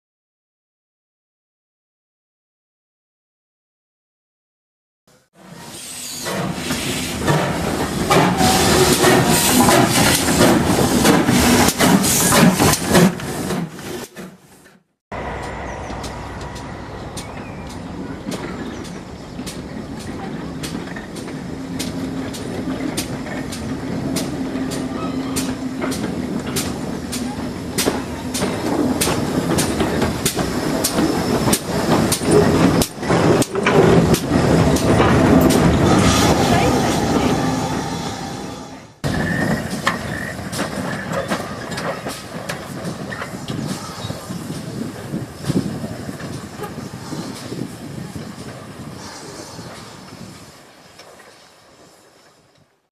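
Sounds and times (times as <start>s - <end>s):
railway coaches rumbling: 5.4s - 52.8s
steam locomotive beats: 5.6s - 13.8s, 15.1s - 52.6s.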